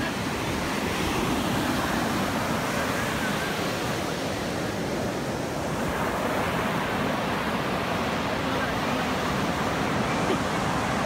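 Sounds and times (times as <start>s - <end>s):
ocean surf washing up beach: 0.0s - 11.0s.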